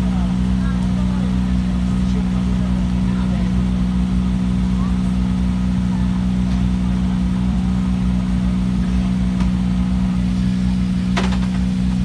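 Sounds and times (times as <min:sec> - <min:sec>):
car engine running steadily: 0:00.0 - 0:12.0.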